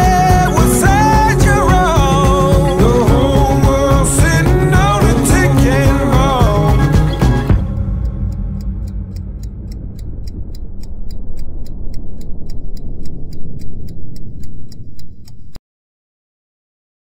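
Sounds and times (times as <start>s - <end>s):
clock ticking: 0.0s - 15.6s
low music tone: 0.0s - 15.6s.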